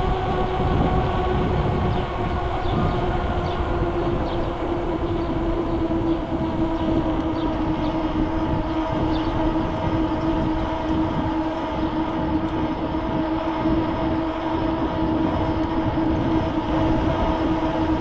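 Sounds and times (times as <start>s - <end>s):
moving vehicle drone: 0.0s - 18.0s.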